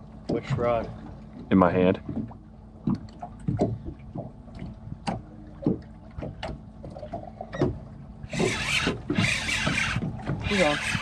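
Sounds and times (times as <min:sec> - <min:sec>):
low steady hum: 0:00.0 - 0:11.0
fishing gear knocking on boat: 0:00.2 - 0:11.0.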